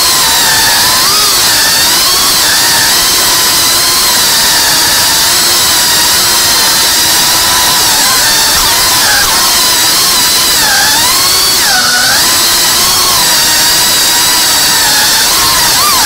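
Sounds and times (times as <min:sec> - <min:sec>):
small drone motors whining: 0:00.0 - 0:16.0.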